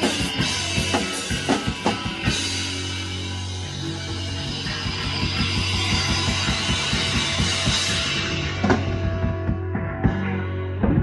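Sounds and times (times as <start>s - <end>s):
live rock band: 0.0s - 11.0s.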